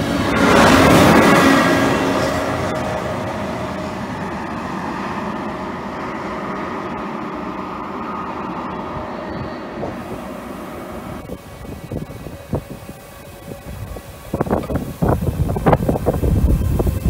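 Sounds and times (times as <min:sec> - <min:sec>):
train wheels rumbling on rail: 0:00.0 - 0:17.0
wind noise: 0:00.0 - 0:17.0.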